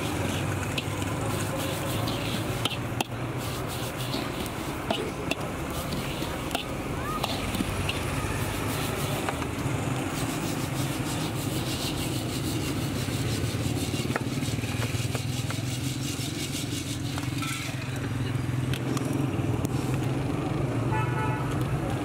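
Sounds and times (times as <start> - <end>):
metal scraper raking through sand: 0.0 - 17.8
street traffic rumble: 0.0 - 22.0.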